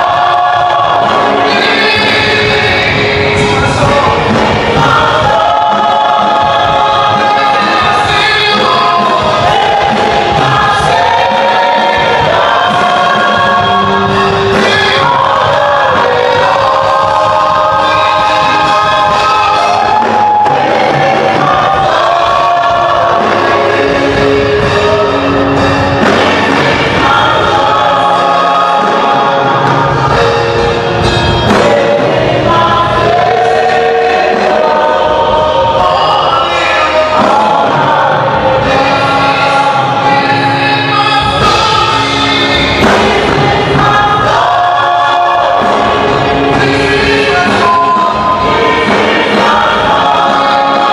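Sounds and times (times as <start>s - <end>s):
gospel choir singing: 0.0s - 50.9s
instrumental backing: 0.0s - 50.9s.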